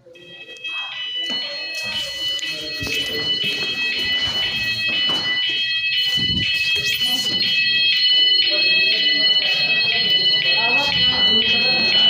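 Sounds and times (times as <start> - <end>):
two-tone fire alarm: 0.0 - 12.0.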